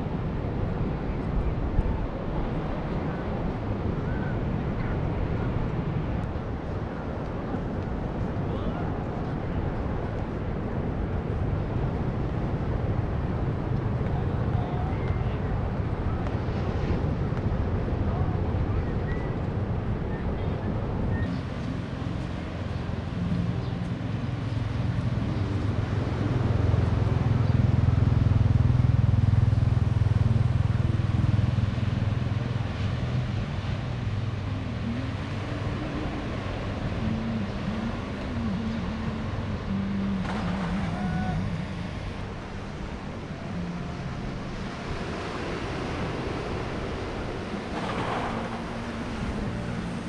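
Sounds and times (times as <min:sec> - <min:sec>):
outdoor background noise: 0:00.0 - 0:50.0
vehicle engines passing: 0:00.0 - 0:50.0.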